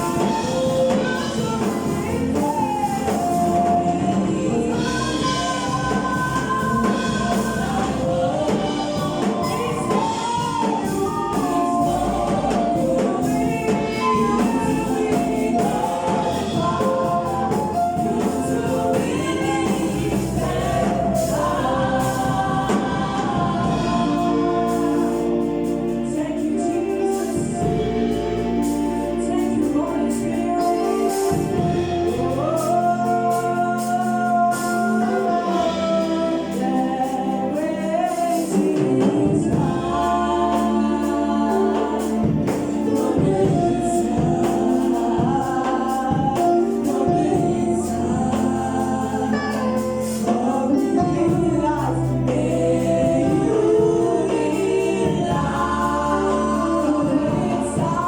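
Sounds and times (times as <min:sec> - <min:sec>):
gospel choir singing: 0:00.0 - 0:58.0
instrumental backing: 0:00.0 - 0:58.0.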